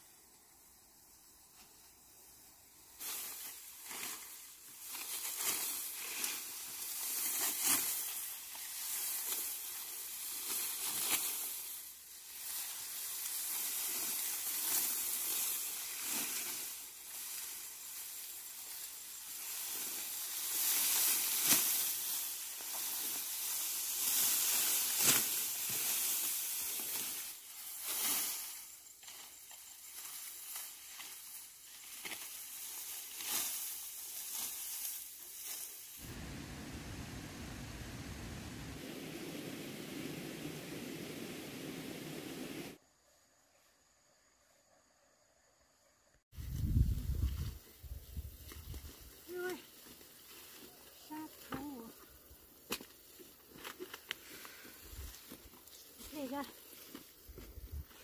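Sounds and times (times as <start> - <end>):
dry rice plants rustling: 1.2 - 42.8, 46.3 - 58.0.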